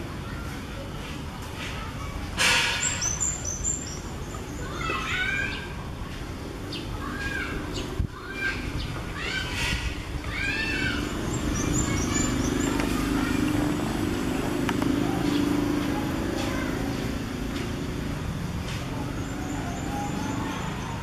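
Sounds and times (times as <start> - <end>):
high arching chirps: 2.6 - 5.8, 6.6 - 21.0.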